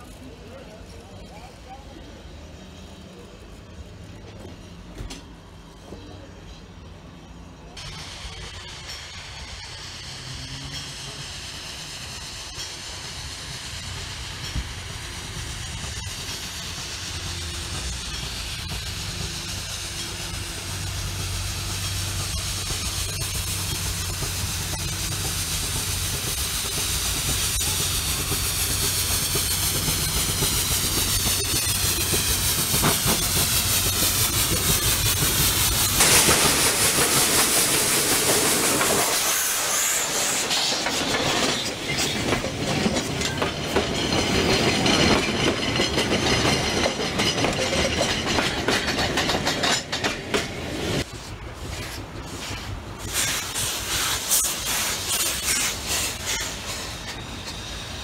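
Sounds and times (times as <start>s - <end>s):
rail carriages clattering: 0.0s - 58.0s
steam locomotive working: 0.0s - 58.0s
steam hissing: 7.2s - 58.0s.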